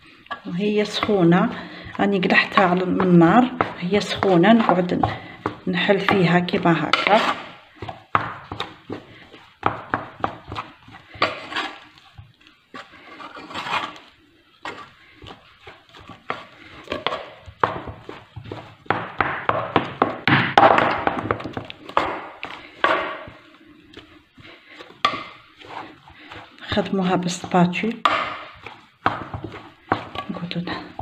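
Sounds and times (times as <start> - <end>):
wooden spatula scraping saucepan: 0.0 - 20.2, 20.8 - 31.0.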